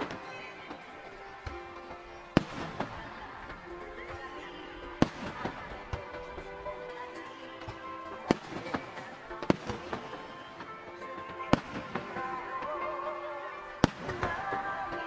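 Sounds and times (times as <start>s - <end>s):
steady music: 0.0s - 15.0s.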